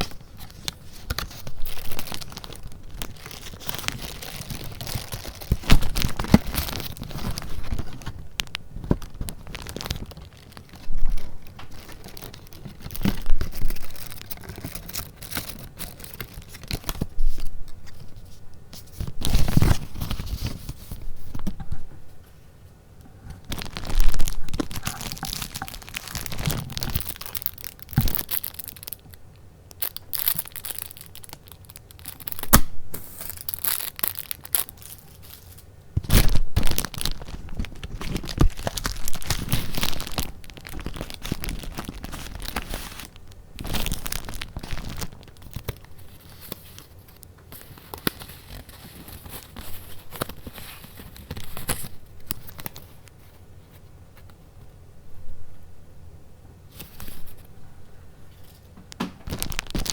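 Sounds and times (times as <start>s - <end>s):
paper rustling and crinkling: 0.0s - 22.4s, 23.2s - 29.2s, 29.8s - 54.4s, 56.7s - 57.5s, 58.3s - 59.9s.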